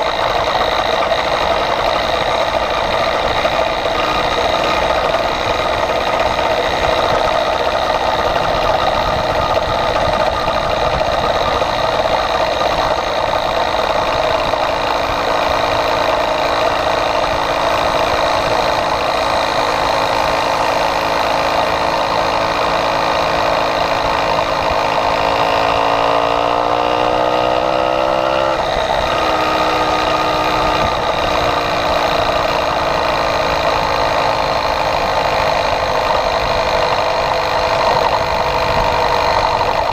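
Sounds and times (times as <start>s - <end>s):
small engine buzzing: 0.0s - 39.9s.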